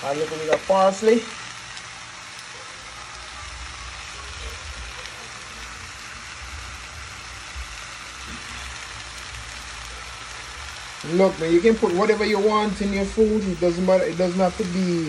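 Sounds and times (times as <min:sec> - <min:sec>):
vegetables sizzling in frying pan: 0:00.0 - 0:15.0.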